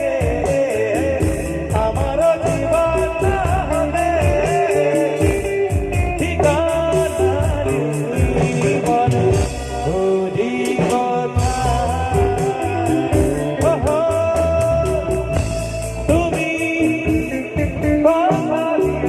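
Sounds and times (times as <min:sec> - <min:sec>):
pulsing bass: 0:00.0 - 0:10.2, 0:11.4 - 0:19.0.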